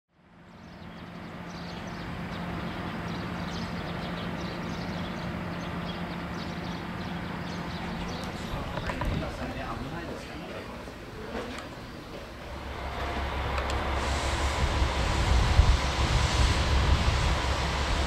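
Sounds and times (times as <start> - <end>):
parked train low hum: 0.1 - 18.0.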